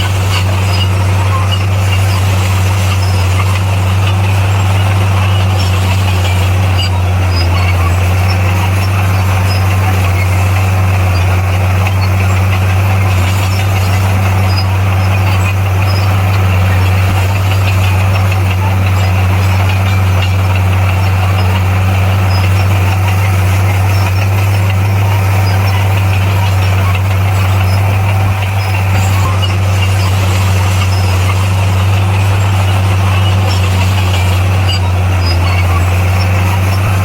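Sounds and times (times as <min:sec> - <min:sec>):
bulldozer diesel engine droning: 0:00.0 - 0:37.0.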